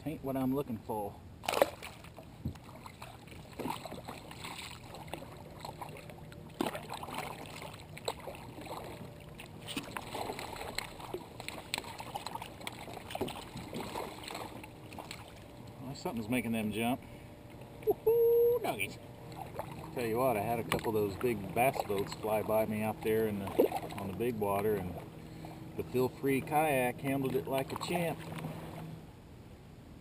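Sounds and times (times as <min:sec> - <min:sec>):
water splashing against kayak: 0:01.4 - 0:29.0.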